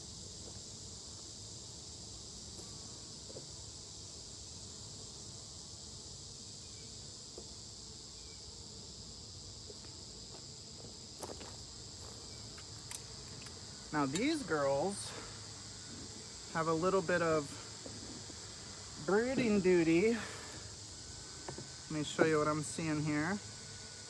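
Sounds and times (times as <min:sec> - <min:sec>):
insects chirring chorus: 0:00.0 - 0:24.0.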